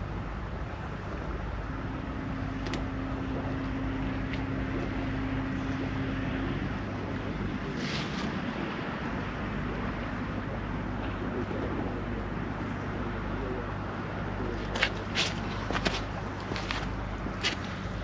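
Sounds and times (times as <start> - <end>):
low outdoor rumble: 0.0 - 18.0
steady low hum: 0.0 - 18.0.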